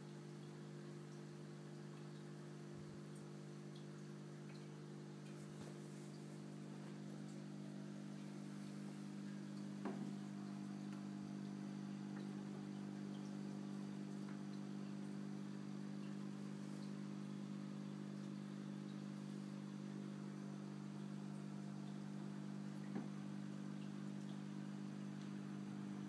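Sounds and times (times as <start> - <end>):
aquarium pump hum: 0.0 - 26.0.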